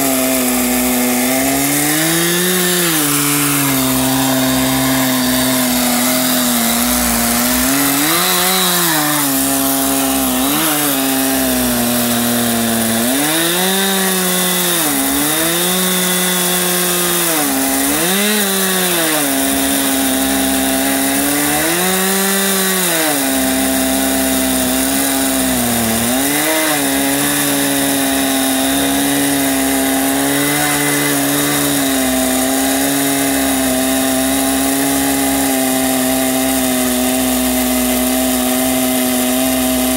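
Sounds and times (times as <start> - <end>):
chainsaw ripping along a log: 0.0 - 39.9.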